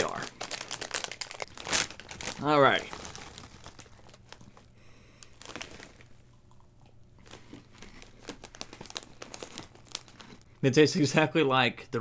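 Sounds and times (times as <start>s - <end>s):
plastic snack bag crinkling: 0.0s - 6.6s, 7.2s - 10.8s
crunching and chewing: 0.0s - 10.6s.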